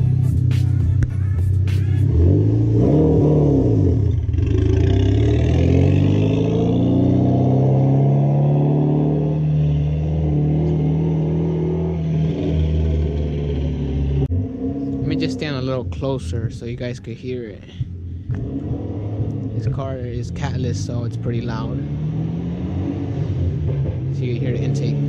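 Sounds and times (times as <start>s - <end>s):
turbocharged car engine revving: 0.0s - 25.0s.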